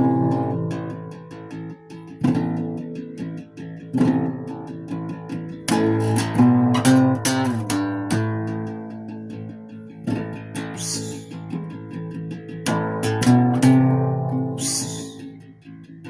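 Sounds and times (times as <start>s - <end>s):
solo guitar playing: 0.0s - 16.0s.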